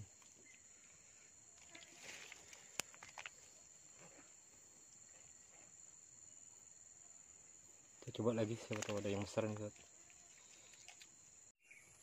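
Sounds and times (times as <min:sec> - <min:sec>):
high insect drone: 0:00.0 - 0:11.9.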